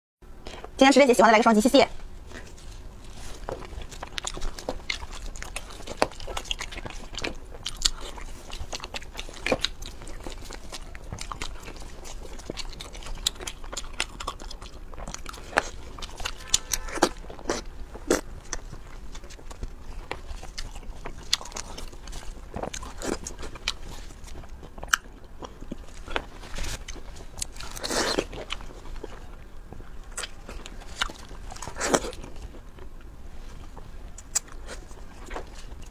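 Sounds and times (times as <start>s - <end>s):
crunching and chewing: 2.1s - 35.9s.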